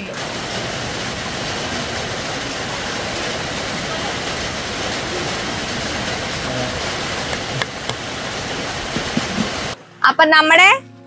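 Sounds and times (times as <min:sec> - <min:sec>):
heavy rain hissing: 0:00.0 - 0:09.9.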